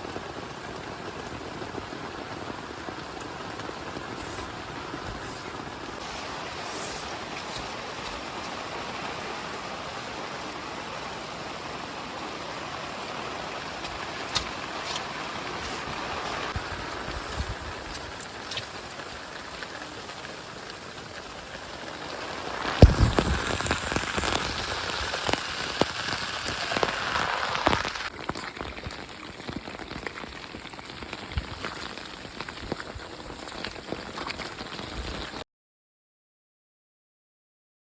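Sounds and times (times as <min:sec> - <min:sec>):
rain falling: 0:00.0 - 0:35.4.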